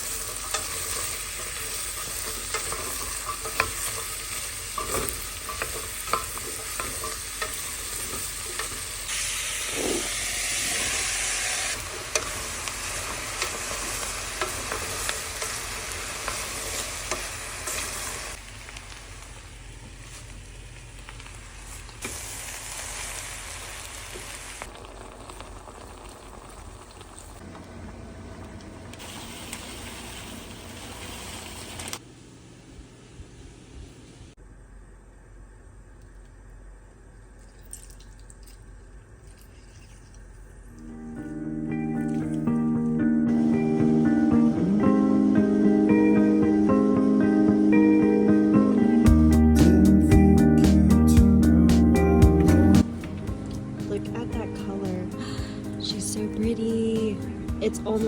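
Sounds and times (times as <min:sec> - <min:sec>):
food sizzling in a pan: 0:00.0 - 0:32.0, 0:43.3 - 0:58.0.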